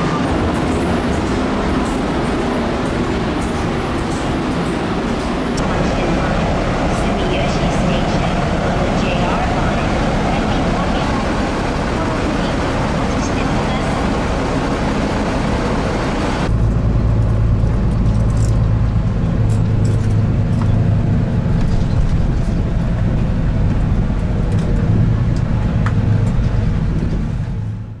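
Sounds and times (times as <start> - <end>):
bus engine droning: 0.0 - 28.0
rushing outdoor noise: 0.0 - 28.0.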